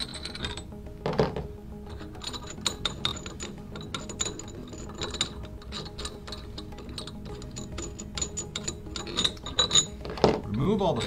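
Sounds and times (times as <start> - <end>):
background music: 0.0 - 11.0
metal bolts clicking and rattling: 0.0 - 11.0
metal clunk: 0.0 - 11.0.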